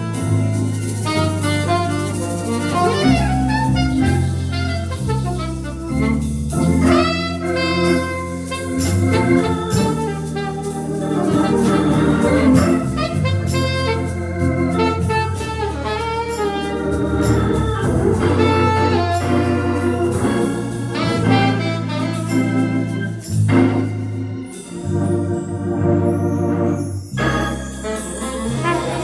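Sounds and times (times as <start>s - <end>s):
low bass line: 0.0s - 29.0s
organ playing chords and runs: 0.0s - 29.0s.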